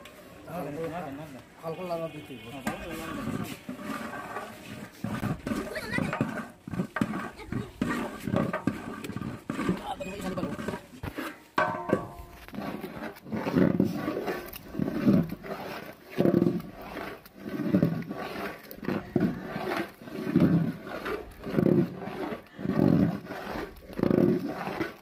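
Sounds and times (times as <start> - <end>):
stirring rod scraping in pot: 0.0 - 25.0.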